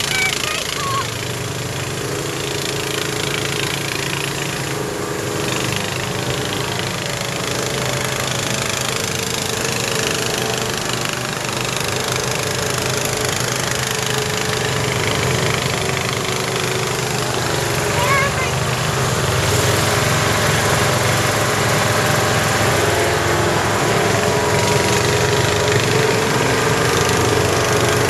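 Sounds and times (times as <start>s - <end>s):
buggy engine running: 0.0s - 28.0s.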